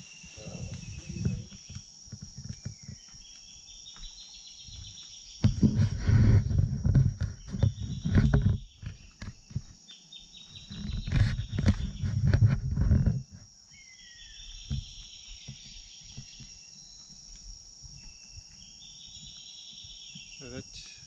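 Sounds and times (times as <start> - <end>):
insect chorus buzzing and trilling: 0.0 - 21.0.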